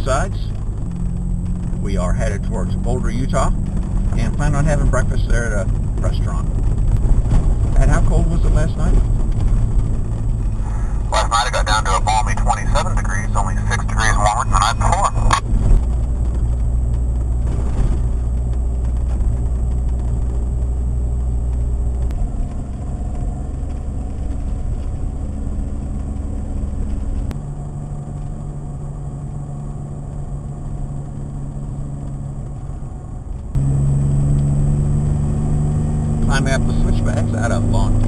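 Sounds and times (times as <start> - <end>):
car engine: 0.0 - 38.0
road noise: 0.0 - 38.0.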